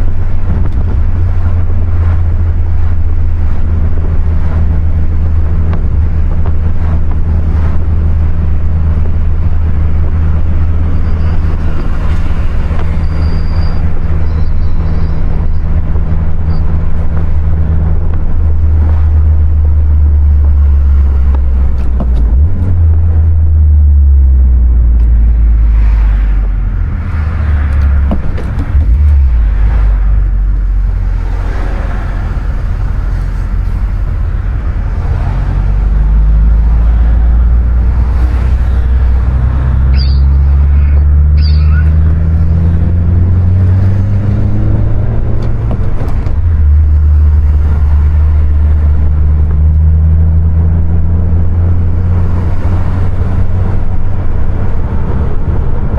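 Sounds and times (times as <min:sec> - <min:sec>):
car engine droning: 0:00.0 - 0:55.9
road noise: 0:00.0 - 0:55.9.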